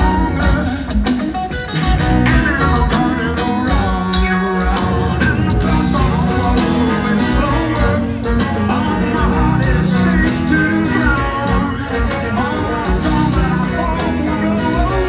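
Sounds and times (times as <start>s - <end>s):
drums beating: 0.0s - 15.0s
electric guitar: 0.0s - 15.0s
man singing: 0.0s - 15.0s.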